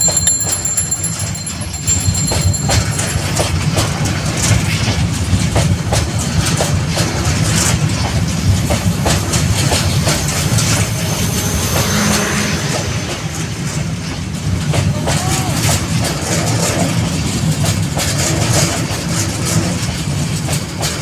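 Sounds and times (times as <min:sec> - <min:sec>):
wheels clicking over rail joints: 0:00.0 - 0:10.9, 0:14.1 - 0:21.0
train rumbling on rails: 0:00.0 - 0:21.0.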